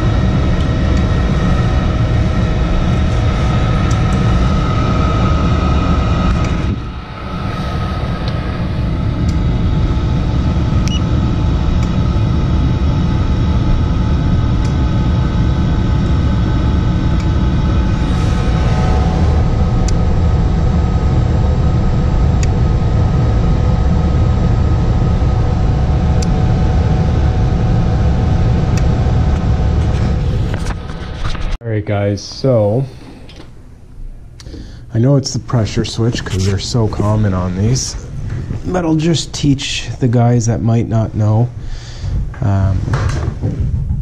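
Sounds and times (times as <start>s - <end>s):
furnace fan motor running: 0.0s - 44.0s.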